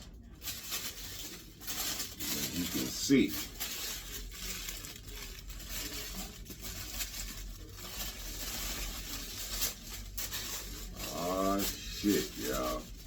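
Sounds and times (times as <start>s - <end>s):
wrapping rustling and crinkling: 0.0s - 13.0s.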